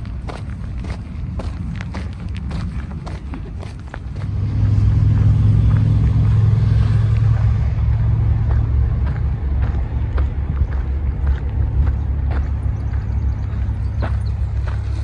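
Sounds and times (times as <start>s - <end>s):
footsteps: 0.0s - 15.0s
vehicle passing: 0.0s - 15.0s.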